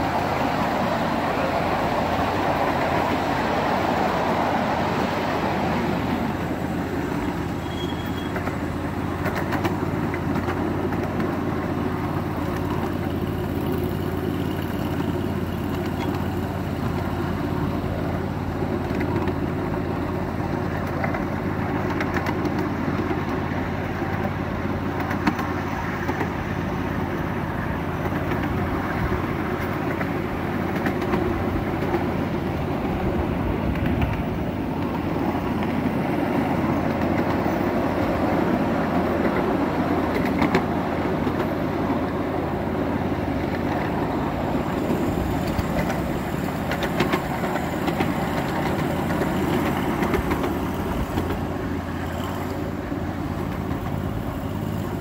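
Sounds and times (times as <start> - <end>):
model trains rolling: 0.0 - 55.0.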